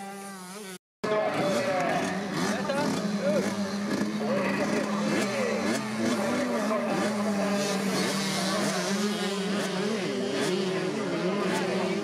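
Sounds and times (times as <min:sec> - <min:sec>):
small two-stroke bike engines revving: 0:00.0 - 0:12.0.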